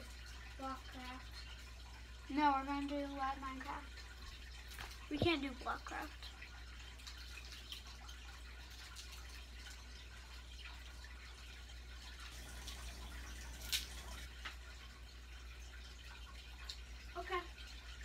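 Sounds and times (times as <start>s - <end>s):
aquarium filter trickling: 0.0s - 18.0s.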